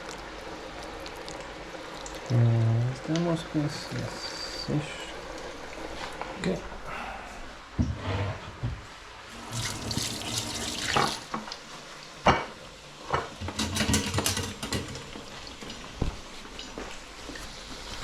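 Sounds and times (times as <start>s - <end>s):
hot oil sizzling: 0.0s - 6.8s, 9.0s - 18.0s.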